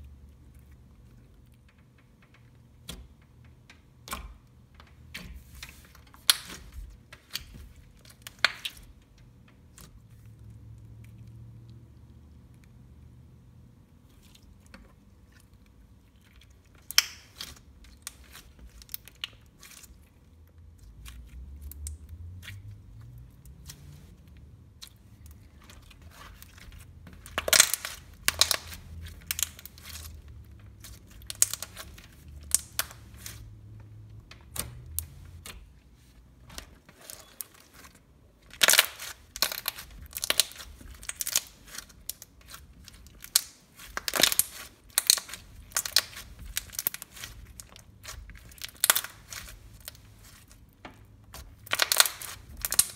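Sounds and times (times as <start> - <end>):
hands squishing slime: 0.0 - 13.0, 13.6 - 52.9.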